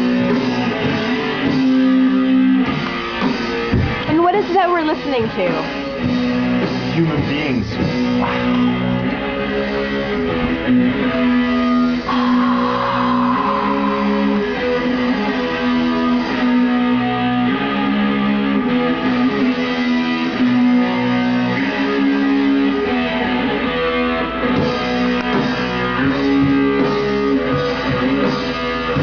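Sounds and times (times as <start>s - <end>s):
rock music with electric guitar: 0.0s - 29.0s.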